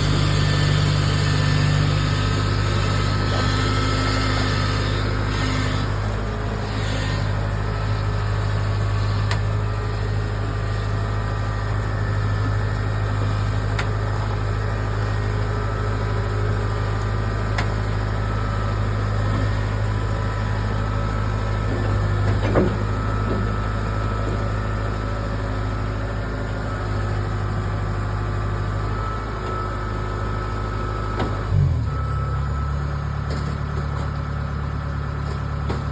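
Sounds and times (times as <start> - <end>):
vehicle engine humming: 0.0 - 35.9.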